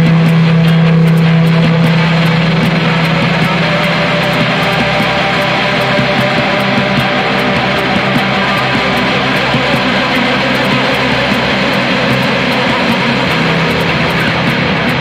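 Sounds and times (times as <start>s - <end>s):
experimental guitar music: 0.0s - 15.0s
low drone note: 0.0s - 15.0s.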